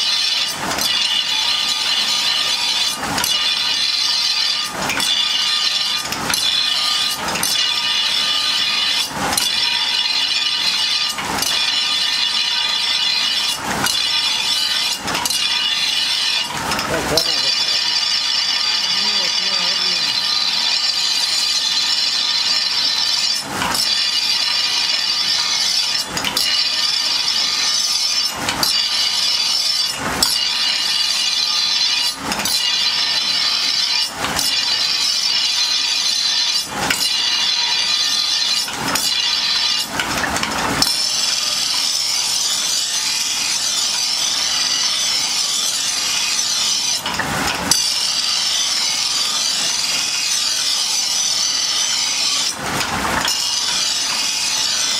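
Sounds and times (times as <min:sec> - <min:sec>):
blade grinding on grinding wheel: 0:00.0 - 0:54.9.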